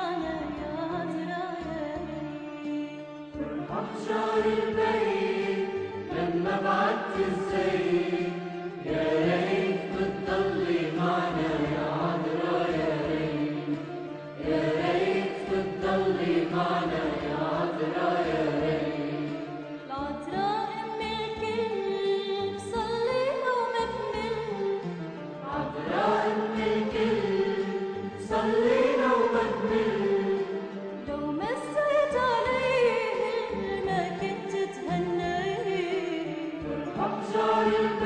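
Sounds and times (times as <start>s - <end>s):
chant-like singing voices: 3.3s - 22.6s, 23.8s - 38.0s.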